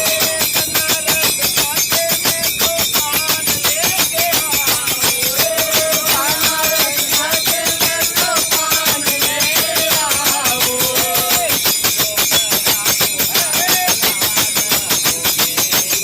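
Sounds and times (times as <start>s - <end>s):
group of people singing: 0.0s - 16.0s
hand percussion beat: 0.0s - 16.0s.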